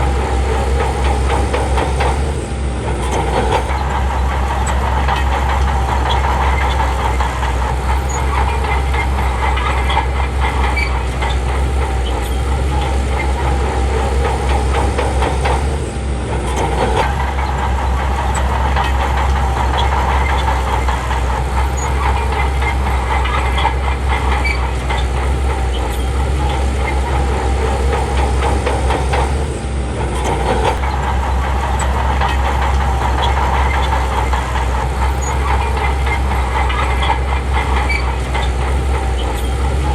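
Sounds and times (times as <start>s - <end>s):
bulldozer diesel engine: 0.0s - 39.9s
steel tracks clattering: 0.0s - 39.9s.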